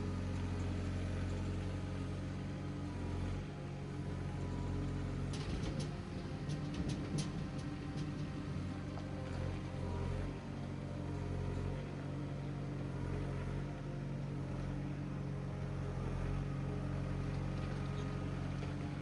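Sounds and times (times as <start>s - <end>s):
vehicle engine running steadily: 0.0s - 19.0s.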